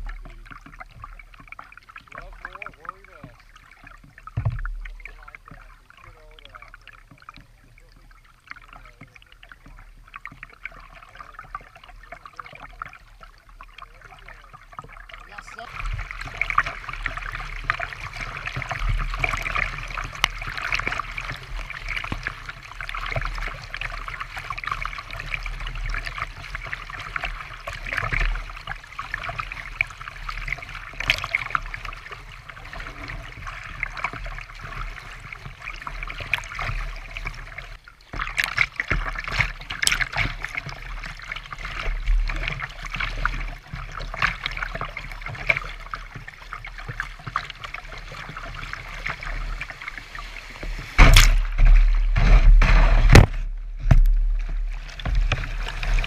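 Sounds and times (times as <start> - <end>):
water splashing against kayak hull: 0.0 - 56.0.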